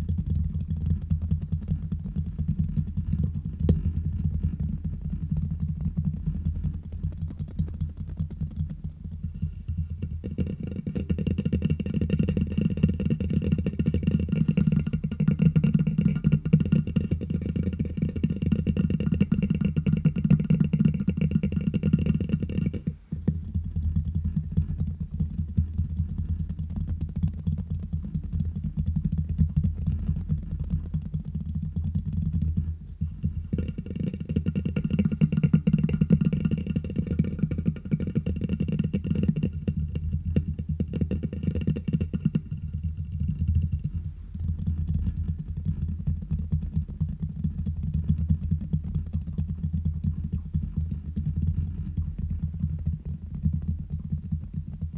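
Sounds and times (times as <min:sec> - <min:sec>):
tapping and scratching on microphone: 0:00.0 - 0:54.9.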